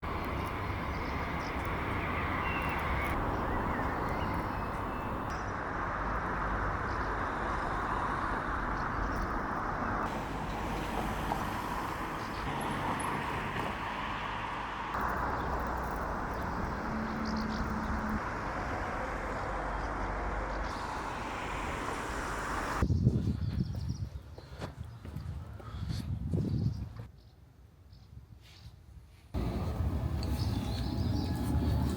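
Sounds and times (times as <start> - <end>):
rushing wind: 0.0 - 27.1.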